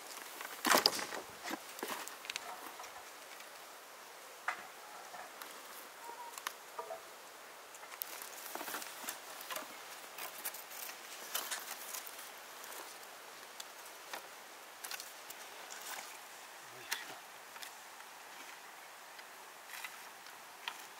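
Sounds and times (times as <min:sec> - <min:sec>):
faint steady hiss: 0:00.0 - 0:20.9.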